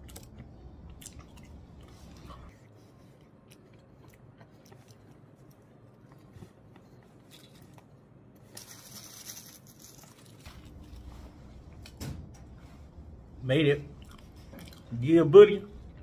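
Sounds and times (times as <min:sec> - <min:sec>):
faint eating sounds: 0:00.0 - 0:11.9, 0:12.5 - 0:16.0.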